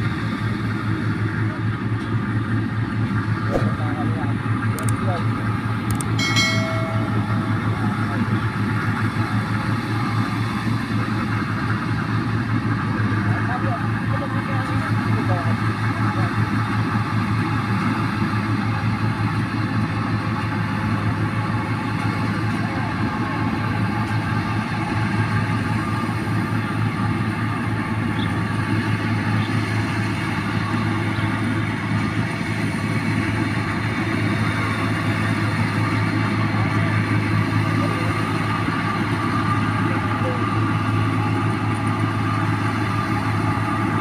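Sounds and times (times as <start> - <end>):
combine harvester humming: 0.0 - 44.0.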